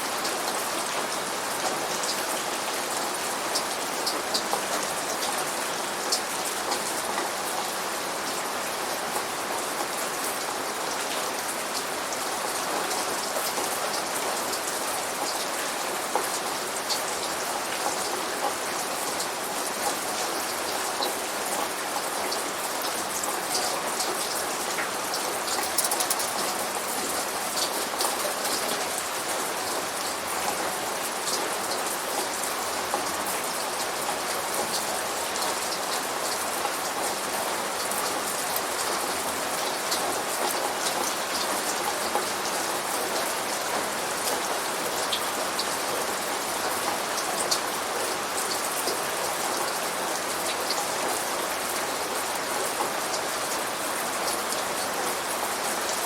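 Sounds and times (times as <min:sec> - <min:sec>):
rain splashing on a surface: 0:00.0 - 0:56.0.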